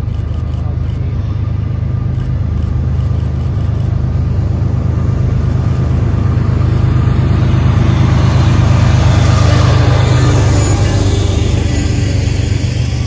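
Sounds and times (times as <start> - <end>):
diesel locomotive engine drone: 0.0 - 13.0
rail noise: 0.0 - 13.0.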